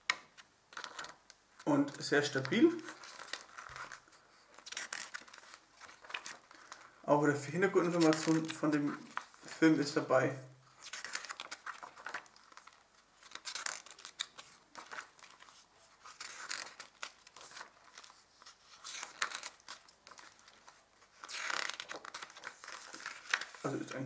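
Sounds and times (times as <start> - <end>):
book pages turning: 0.0 - 7.0, 7.6 - 10.0, 10.7 - 24.0.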